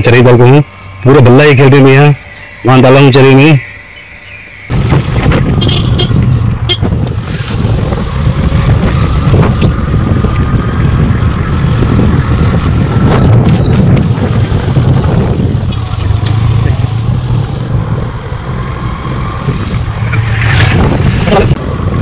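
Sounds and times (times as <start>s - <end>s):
vehicle running: 0.0s - 22.0s
wind buffeting microphone: 4.3s - 22.0s.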